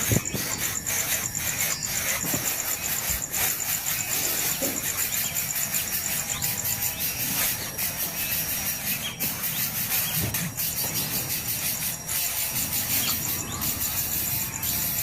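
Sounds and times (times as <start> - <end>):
nestling birds squealing: 0.0 - 15.0
steady high buzz: 0.0 - 15.0.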